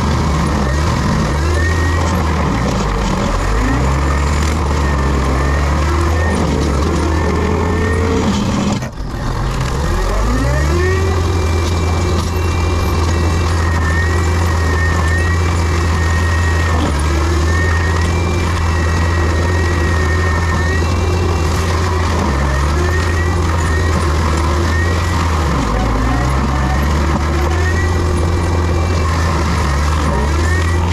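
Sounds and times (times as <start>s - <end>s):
diesel engine droning: 0.0s - 30.9s.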